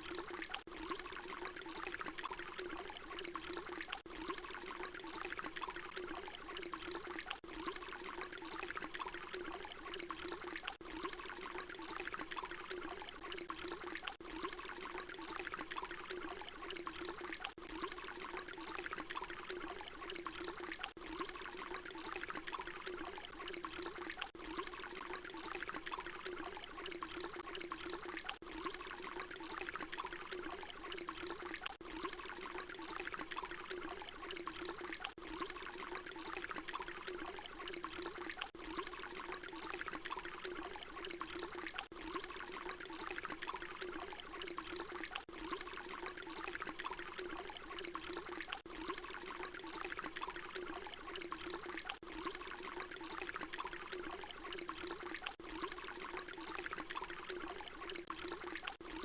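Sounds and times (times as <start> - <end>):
water pouring in bubbling stream: 0.0 - 59.0.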